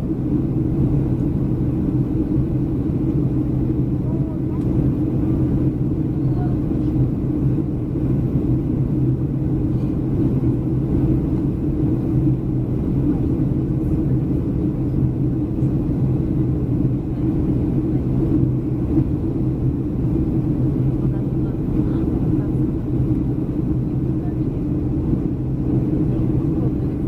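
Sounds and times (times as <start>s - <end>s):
jet engines droning: 0.0s - 27.0s
low hum: 0.0s - 27.0s.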